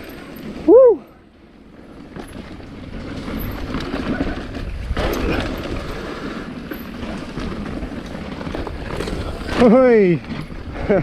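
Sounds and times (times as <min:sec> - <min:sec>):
bike rattling: 0:00.0 - 0:11.0
bike tyres on dirt trail: 0:00.0 - 0:11.0.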